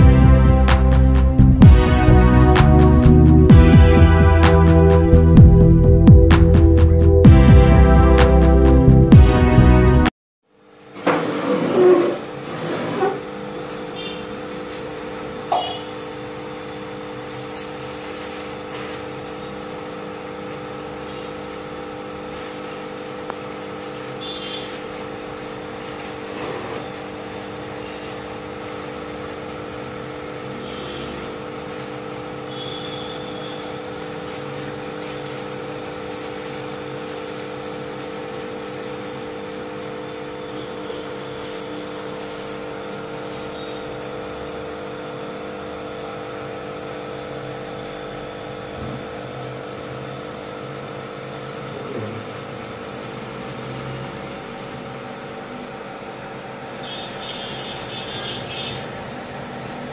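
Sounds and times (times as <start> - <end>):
aquarium pumps humming: 0.0 - 9.6, 10.5 - 59.9.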